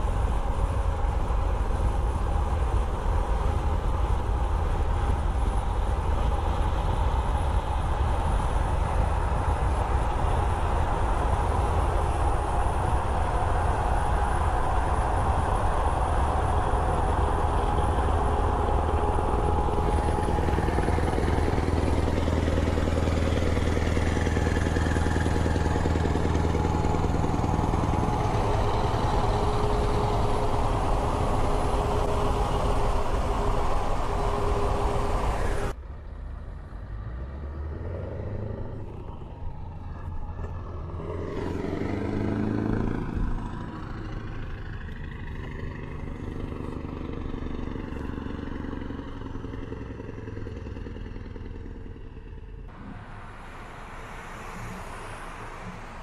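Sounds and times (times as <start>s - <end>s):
diesel truck engine: 0.0s - 56.0s
road and wind noise: 0.0s - 56.0s.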